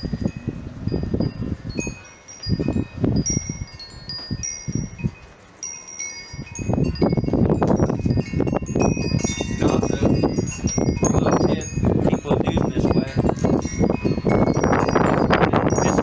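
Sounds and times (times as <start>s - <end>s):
low rumbling noise: 0.0s - 16.0s
wind chimes tinkling: 0.0s - 16.0s.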